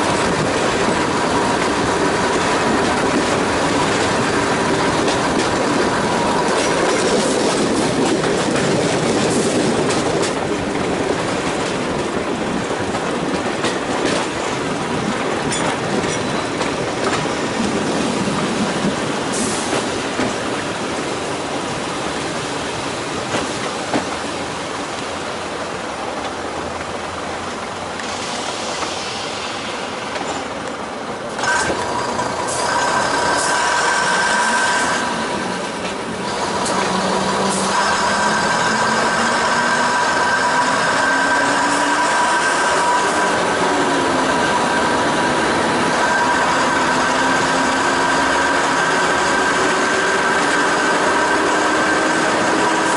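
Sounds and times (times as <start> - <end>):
wheels clicking over rail joints: 0.0 - 29.0, 30.0 - 52.9
train rushing along: 0.0 - 52.9.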